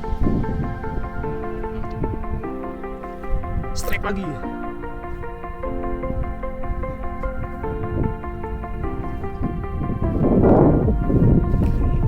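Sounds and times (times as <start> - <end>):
low rush of noise: 0.0 - 12.0.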